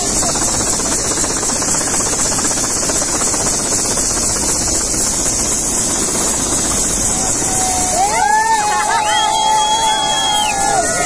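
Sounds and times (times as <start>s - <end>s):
helicopter engine whine and rotor: 0.0s - 11.0s.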